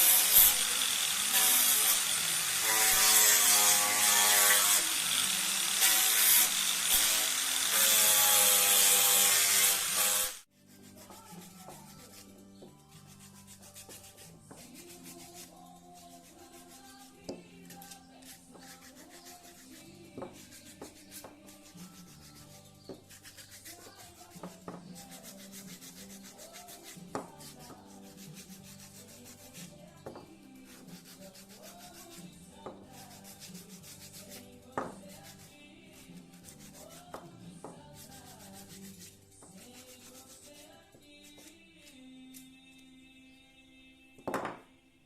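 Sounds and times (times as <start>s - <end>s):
sandpaper rubbing on wood: 0.0s - 42.1s
quiet background music: 0.0s - 45.0s.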